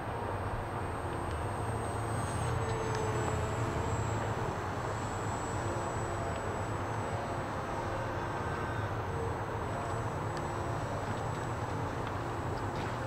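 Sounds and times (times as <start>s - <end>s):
electric motor high whine: 0.0s - 13.0s.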